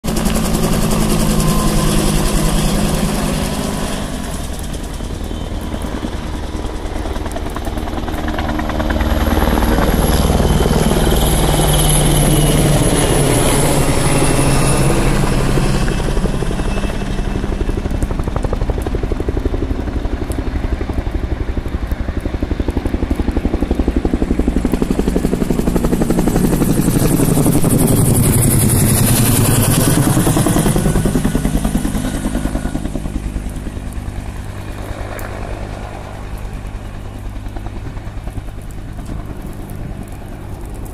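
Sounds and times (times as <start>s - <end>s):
helicopter rotor beat: 0.0s - 40.9s.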